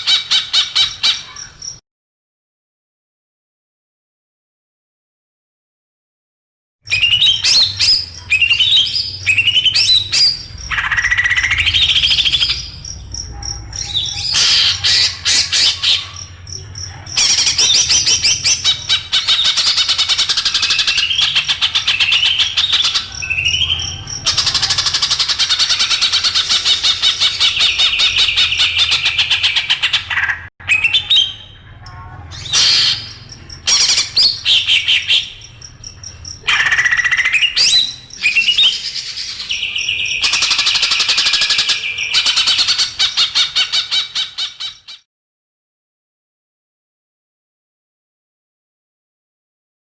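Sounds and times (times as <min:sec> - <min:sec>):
songbirds chattering and whistling: 0:00.0 - 0:01.8, 0:06.9 - 0:45.1.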